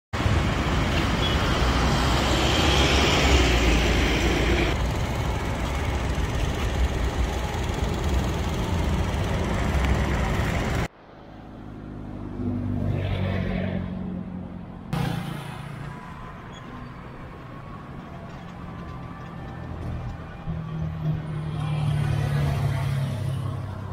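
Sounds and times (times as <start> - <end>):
loud street traffic rumble: 0.2 - 23.9
quieter traffic engine hum: 0.2 - 23.9.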